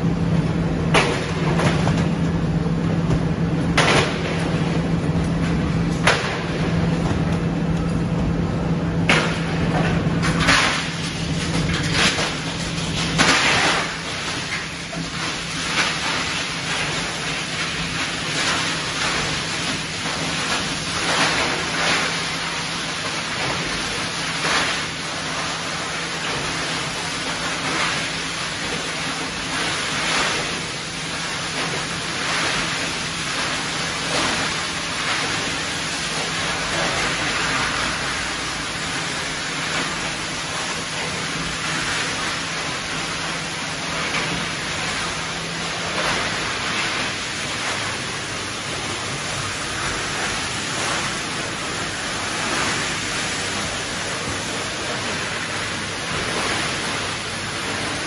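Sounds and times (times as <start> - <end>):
constant low hum: 0.0 - 58.0.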